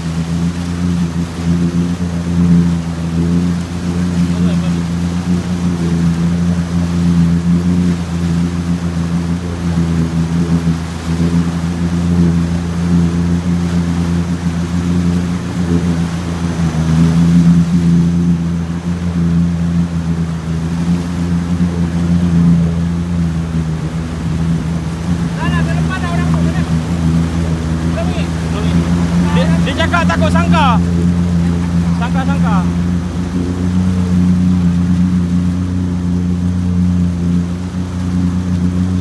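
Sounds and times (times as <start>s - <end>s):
outboard motor droning: 0.0s - 39.0s
water rushing along hull: 0.0s - 39.0s.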